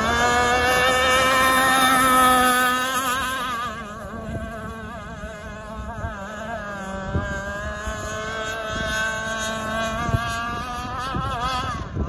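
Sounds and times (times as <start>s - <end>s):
rc boat motor whine: 0.0s - 12.0s
wind buffeting microphone: 0.0s - 12.0s.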